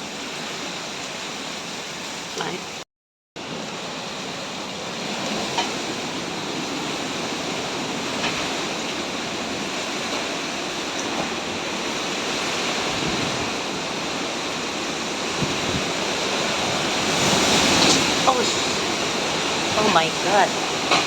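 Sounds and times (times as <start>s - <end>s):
hurricane wind: 0.0s - 2.8s, 3.4s - 21.0s
wind-driven rain: 0.0s - 2.8s, 3.4s - 21.0s.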